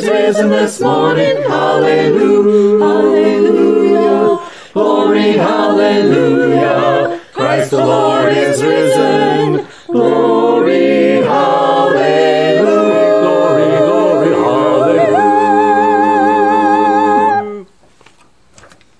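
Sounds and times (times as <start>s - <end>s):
mixed choir singing a cappella: 0.0s - 17.7s.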